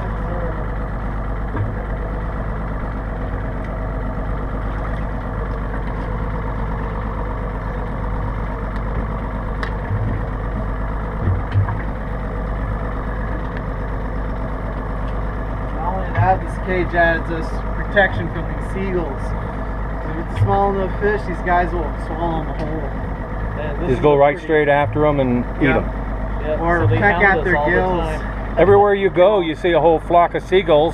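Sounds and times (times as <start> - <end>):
dull low thumps: 0.0 - 16.8, 17.6 - 29.2
boat engine idling: 0.0 - 30.9.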